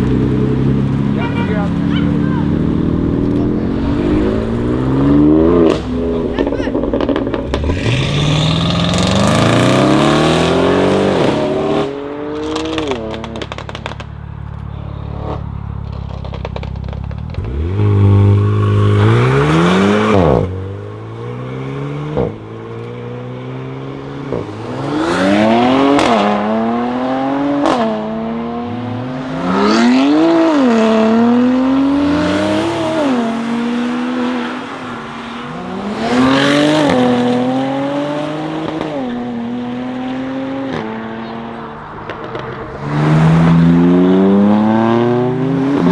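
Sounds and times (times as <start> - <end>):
car engine accelerating hard: 0.0 - 45.9
exhaust crackles: 0.0 - 45.9.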